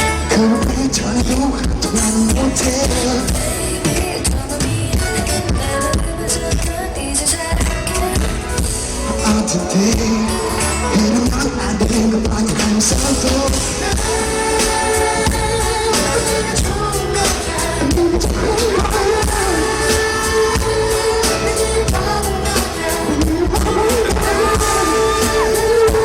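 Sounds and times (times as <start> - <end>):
band with steady beat: 0.0 - 26.0
person singing live: 0.0 - 26.0.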